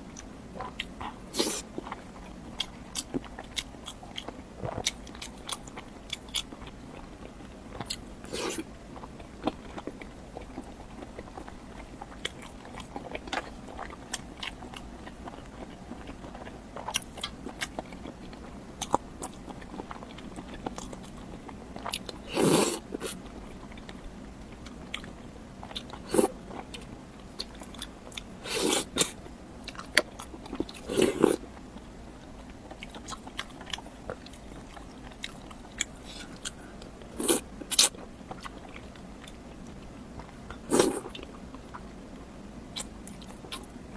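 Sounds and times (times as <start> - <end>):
chewing and biting: 0.2 - 41.9, 42.8 - 43.8.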